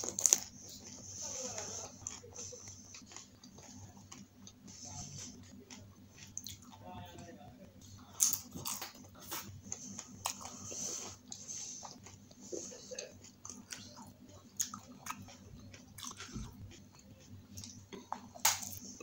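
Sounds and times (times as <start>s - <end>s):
crunchy chewing with mouth sounds: 0.0s - 19.0s.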